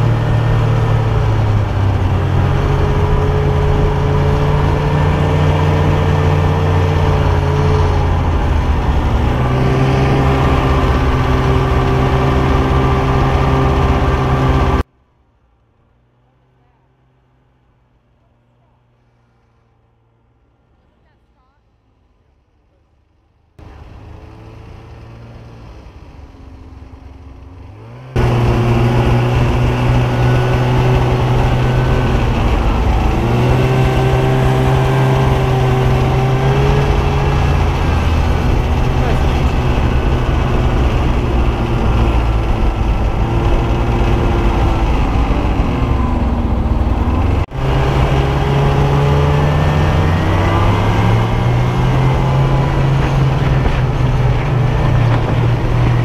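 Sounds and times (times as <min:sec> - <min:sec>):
snowmobile engine running: 0:00.0 - 0:14.9, 0:23.6 - 0:56.0.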